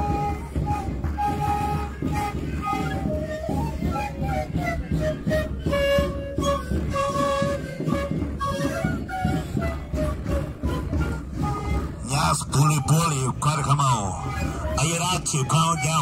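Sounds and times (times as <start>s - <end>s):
flutes playing melody: 0.0s - 16.0s
large drums beating: 0.0s - 16.0s.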